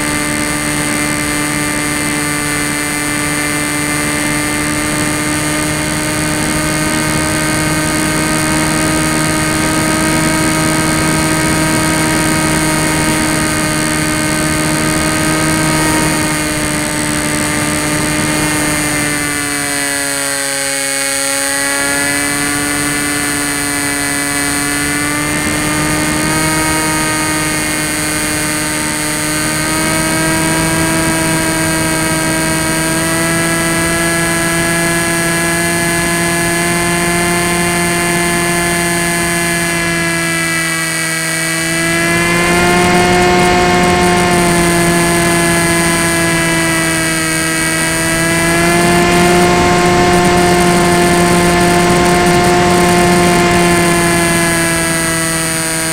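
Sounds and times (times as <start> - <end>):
electric propeller motor whine: 0.0 - 55.9.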